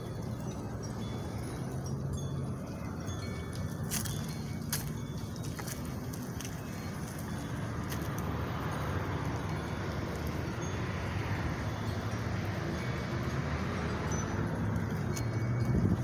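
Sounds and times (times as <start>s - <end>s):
faint light clinks: 0.0s - 11.0s, 14.1s - 16.0s
city background rumble: 0.0s - 16.0s.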